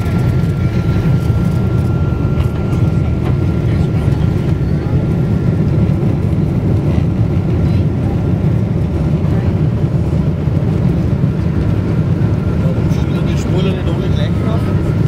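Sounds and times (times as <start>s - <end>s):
airplane cabin rumble on runway: 0.0s - 15.0s.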